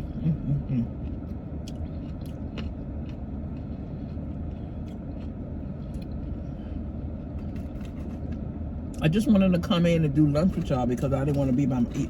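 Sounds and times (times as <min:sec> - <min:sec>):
low rumble inside car cabin: 0:00.0 - 0:12.0.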